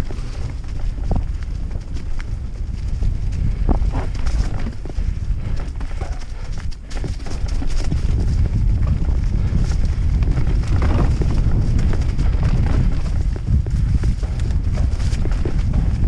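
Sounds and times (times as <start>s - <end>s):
bike rattling and knocking: 0.0s - 16.0s
tyres crunching over stones: 0.0s - 16.0s
wind rumble on microphone: 0.0s - 16.0s.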